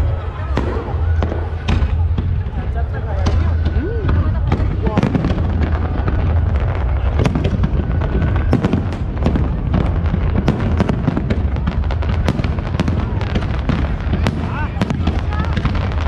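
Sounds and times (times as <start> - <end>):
deep continuous rumble: 0.0 - 16.0
fireworks cracks and bangs: 0.0 - 16.0.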